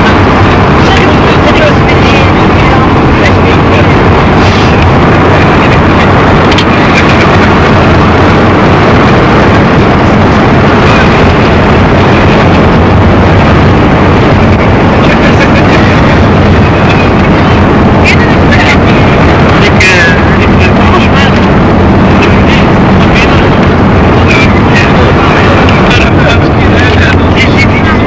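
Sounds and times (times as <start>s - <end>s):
moving vehicle noise: 0.0s - 28.0s
wind on microphone: 0.0s - 28.0s.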